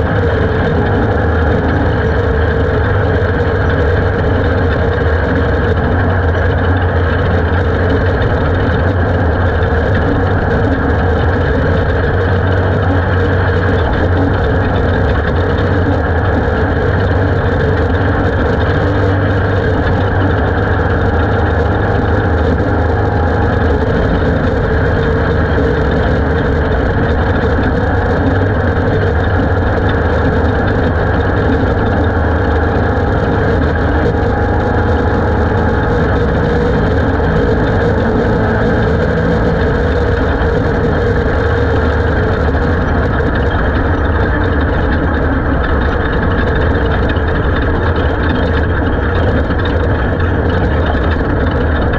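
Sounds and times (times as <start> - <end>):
race car engine running hard: 0.0 - 51.9.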